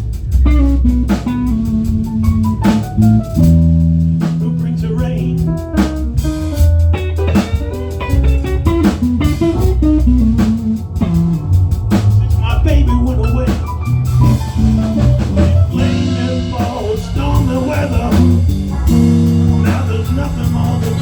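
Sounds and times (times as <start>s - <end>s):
bass guitar: 0.0s - 21.0s
blues guitar: 0.0s - 21.0s
drum kit: 0.0s - 21.0s.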